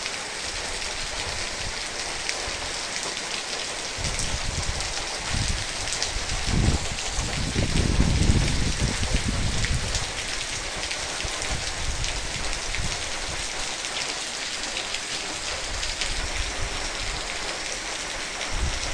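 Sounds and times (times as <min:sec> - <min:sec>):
heavy rain on trees and water: 0:00.0 - 0:18.9.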